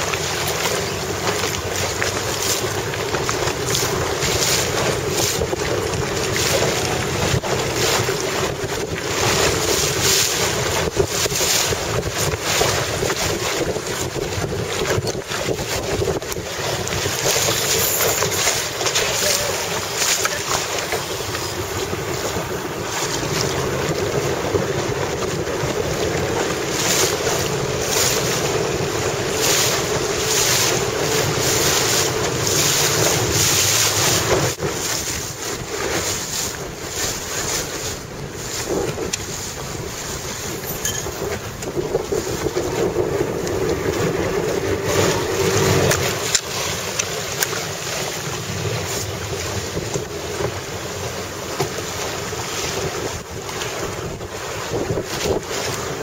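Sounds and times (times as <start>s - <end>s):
water rushing and splashing: 0.0s - 56.0s
wind buffeting microphone: 0.0s - 56.0s.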